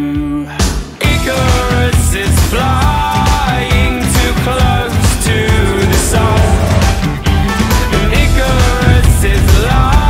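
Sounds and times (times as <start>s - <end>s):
loud rock music: 0.7s - 10.0s.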